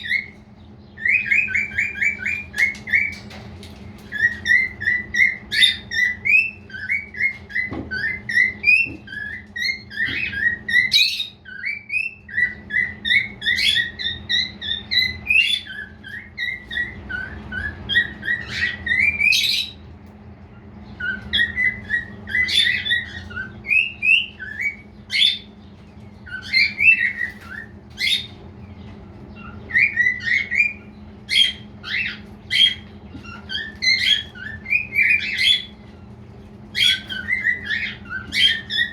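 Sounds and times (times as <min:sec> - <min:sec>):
cockatiel whistling and chirping: 0:00.0 - 0:03.3, 0:04.0 - 0:19.8, 0:20.9 - 0:25.5, 0:26.2 - 0:28.4, 0:29.3 - 0:35.8, 0:36.7 - 0:38.9.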